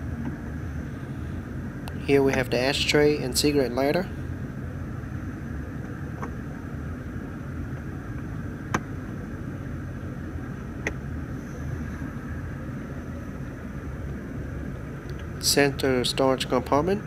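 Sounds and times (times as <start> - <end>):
car cabin low rumble: 0.0 - 17.0.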